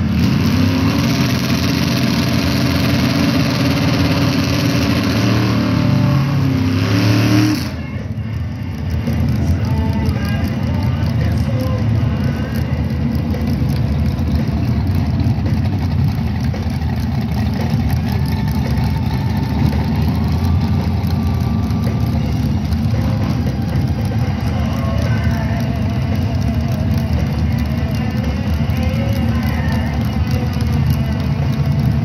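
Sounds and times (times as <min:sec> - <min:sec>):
car engines idling and revving: 0:00.0 - 0:32.0.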